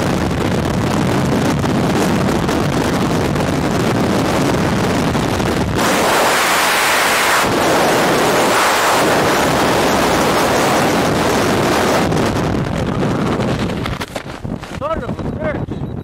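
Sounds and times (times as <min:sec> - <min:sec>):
rushing wind noise: 0:00.0 - 0:16.0.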